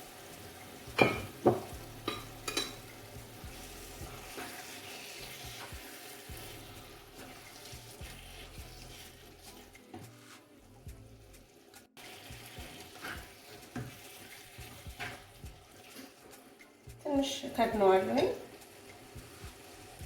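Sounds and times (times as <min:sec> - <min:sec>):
sauce sizzling in a pot: 0:00.0 - 0:20.0.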